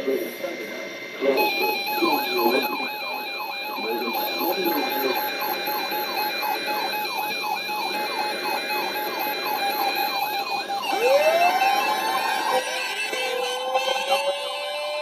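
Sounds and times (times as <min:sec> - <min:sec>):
steady whistling tones: 0:00.0 - 0:12.8
electronic siren yelping and wailing: 0:01.2 - 0:15.0.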